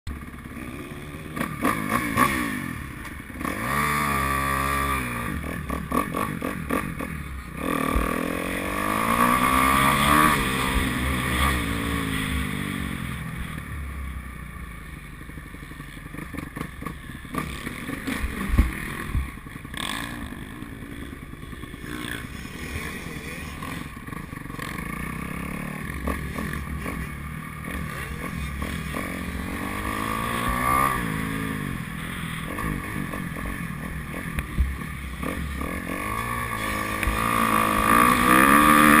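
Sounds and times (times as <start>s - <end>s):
motocross bike engine revving: 0.1s - 39.0s.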